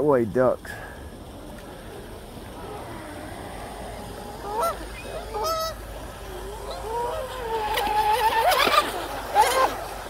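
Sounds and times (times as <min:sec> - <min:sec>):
geese honking: 0:01.8 - 0:09.9.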